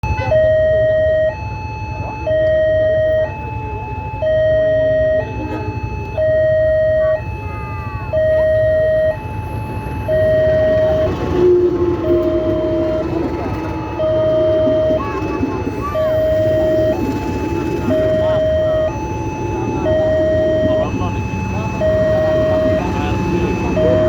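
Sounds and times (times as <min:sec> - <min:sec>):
two-tone door warning signal: 0:00.0 - 0:24.0
train rumble: 0:01.8 - 0:24.0.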